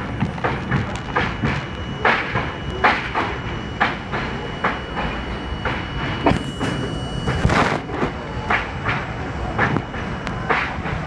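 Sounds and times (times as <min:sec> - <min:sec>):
train rumble: 0:00.0 - 0:11.0
train wheels clacking over rails: 0:00.0 - 0:11.0
thin high whine: 0:00.9 - 0:10.7.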